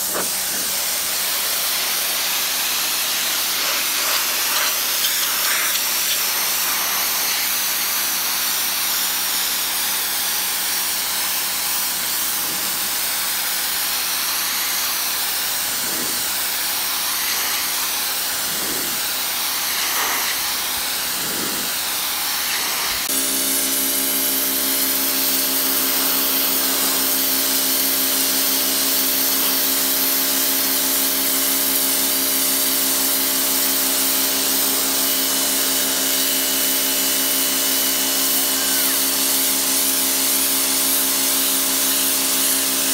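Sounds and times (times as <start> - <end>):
pump motor humming: 0.0 - 42.9
water jet hissing on stone: 0.0 - 42.9.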